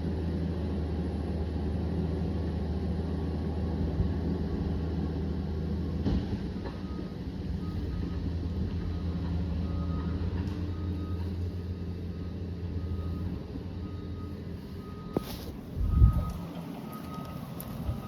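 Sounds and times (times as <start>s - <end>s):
dozer diesel engine drone: 0.0s - 18.0s.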